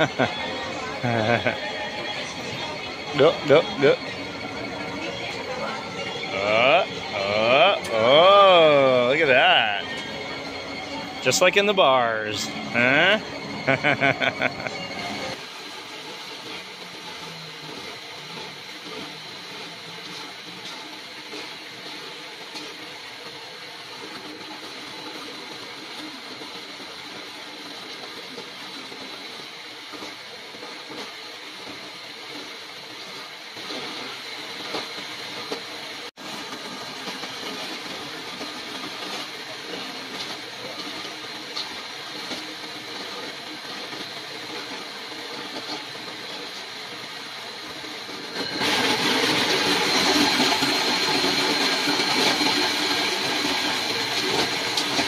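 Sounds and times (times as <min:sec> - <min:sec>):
electric coconut grater whining: 0:00.0 - 0:55.0.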